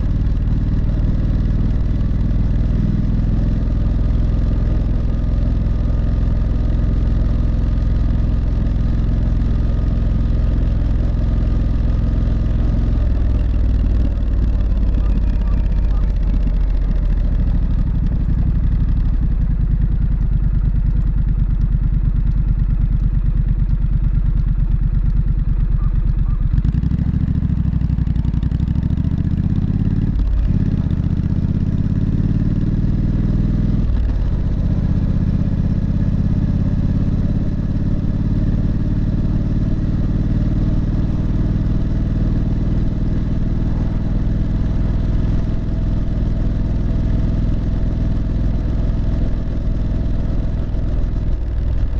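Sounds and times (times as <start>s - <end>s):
motorcycle engine pulling away: 0.0s - 51.9s.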